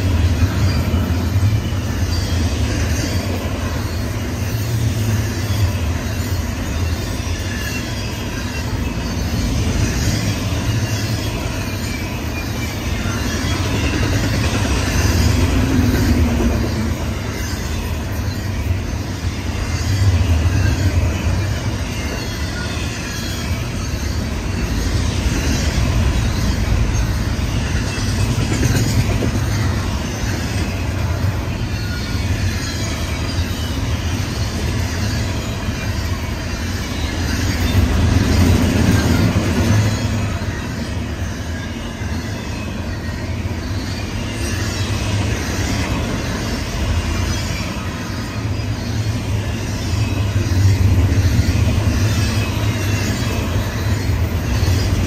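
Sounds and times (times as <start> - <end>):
freight train wheels rumbling: 0.0 - 55.0
high wheel squeal: 0.0 - 55.0.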